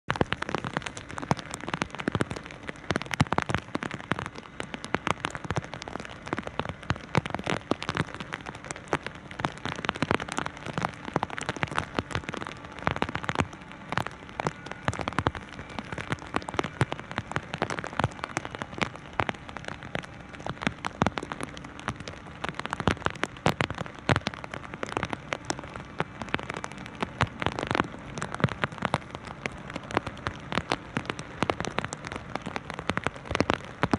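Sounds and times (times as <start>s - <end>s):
heavy rain drops hitting surface: 0.0s - 33.9s
hiss of falling rain: 0.1s - 33.9s.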